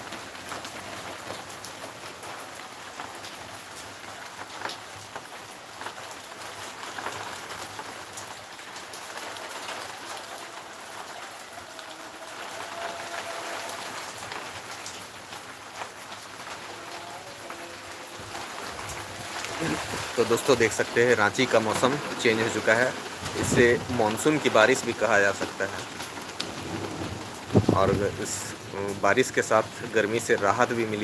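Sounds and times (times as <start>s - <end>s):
raindrops striking hard surfaces: 0.0s - 31.0s
steady rain falling: 0.0s - 31.0s.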